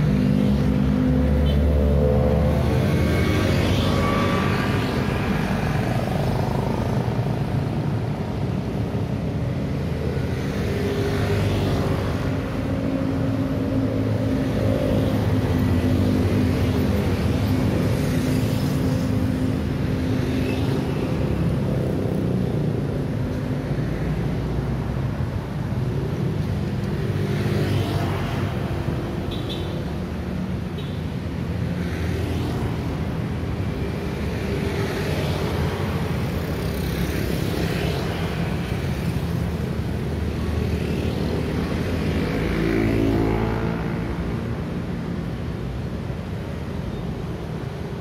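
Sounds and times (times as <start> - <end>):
motorcycles and cars passing: 0.0 - 48.0.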